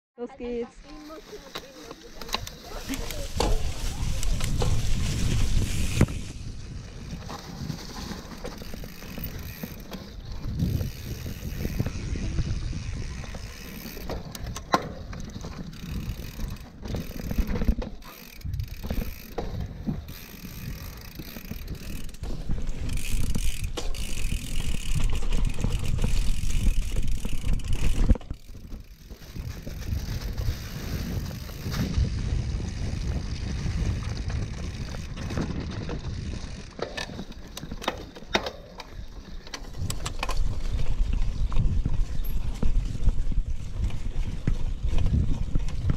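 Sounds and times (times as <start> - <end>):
bike rattling over bumps: 0.8 - 45.9
bike tyres rumbling on dirt: 0.8 - 45.9.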